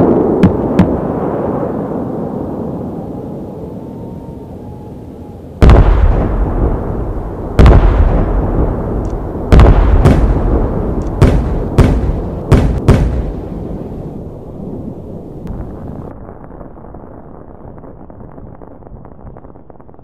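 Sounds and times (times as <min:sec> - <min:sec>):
fireworks bursting with bangs: 0:00.0 - 0:01.8, 0:05.6 - 0:20.0.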